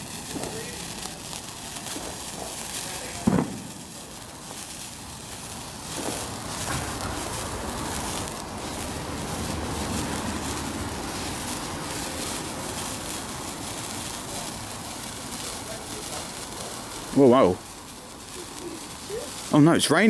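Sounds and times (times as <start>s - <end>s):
sparkler fizzing crackle: 0.0s - 20.0s.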